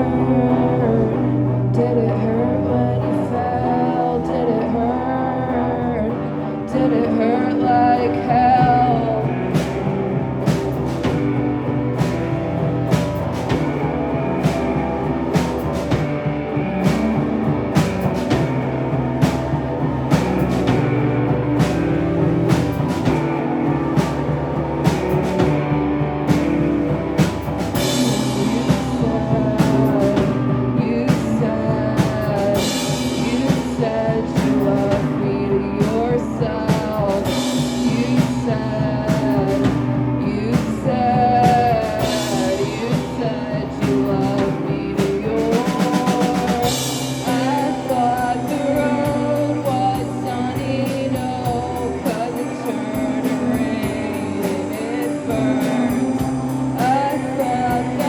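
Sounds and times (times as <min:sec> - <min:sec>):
live rock band playing: 0:00.0 - 0:58.0
drum fill: 0:08.6 - 0:58.0.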